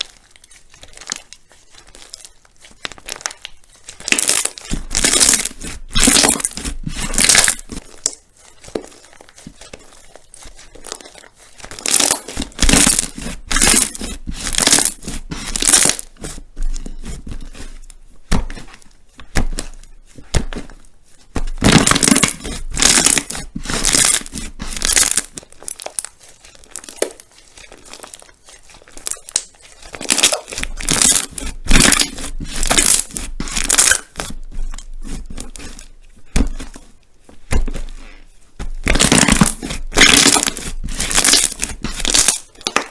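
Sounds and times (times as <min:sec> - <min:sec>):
slime squishing and crackling: 0:00.0 - 0:42.9.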